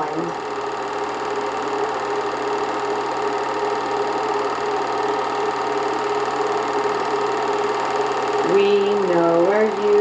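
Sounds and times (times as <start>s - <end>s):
film projector clattering: 0.0s - 10.0s.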